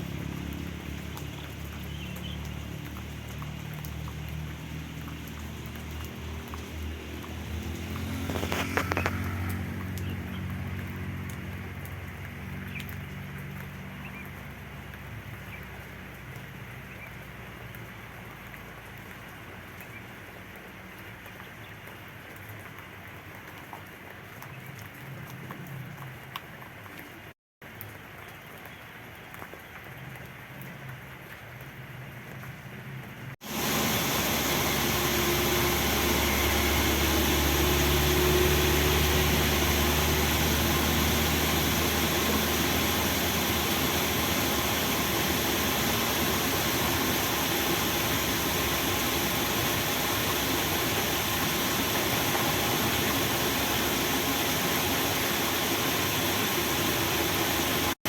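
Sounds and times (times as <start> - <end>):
rain downpour: 0.0 - 58.0.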